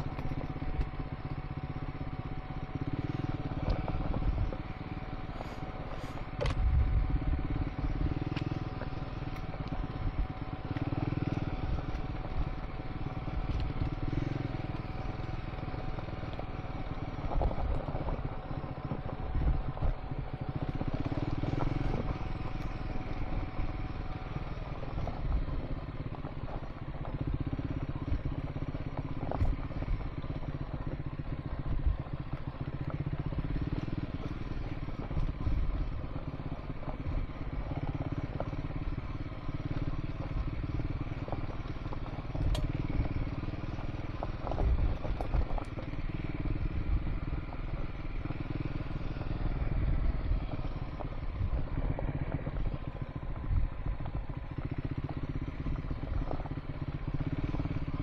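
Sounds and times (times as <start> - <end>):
knocks and clatter from rough track: 0.0 - 58.0
motorcycle engine running: 0.0 - 58.0.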